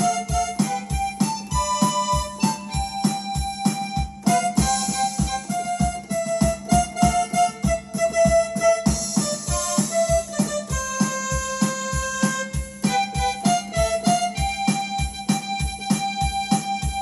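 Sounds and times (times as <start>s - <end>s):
accordion melody: 0.0s - 17.0s
steady bass beat: 0.0s - 17.0s.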